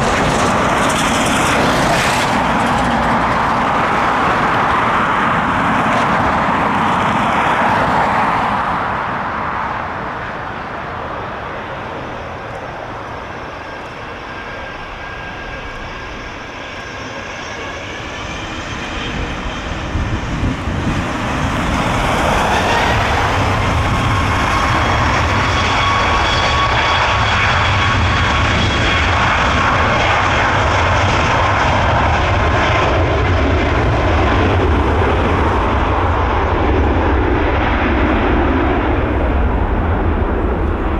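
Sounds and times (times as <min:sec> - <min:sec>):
jet engines spooling up: 0:00.0 - 0:40.9.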